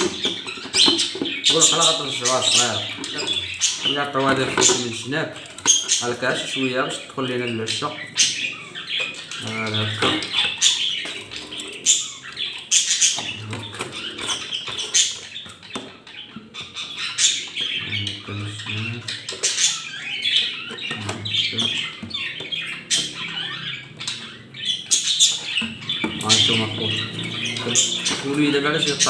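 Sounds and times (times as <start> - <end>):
budgerigars chattering and squawking: 0.0 - 29.0.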